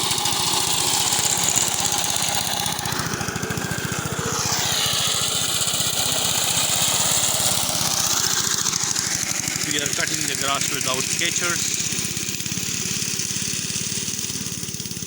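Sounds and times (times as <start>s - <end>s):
lawnmower engine cutting grass: 0.0s - 15.0s.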